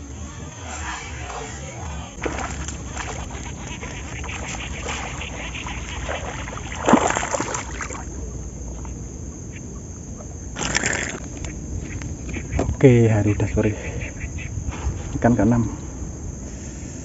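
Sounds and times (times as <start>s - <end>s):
wind and water against hull: 2.0s - 17.0s.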